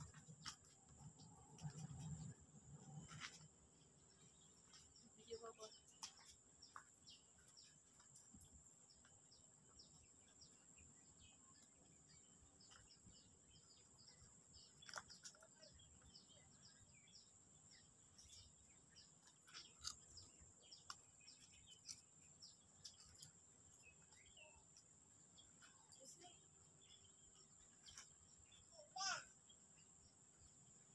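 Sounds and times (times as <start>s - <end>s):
bird chirps: 0.0s - 30.9s.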